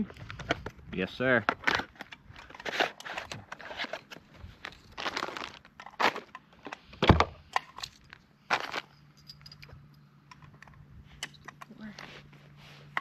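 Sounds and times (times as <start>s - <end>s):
handling clicks and rustles: 0.0s - 13.0s.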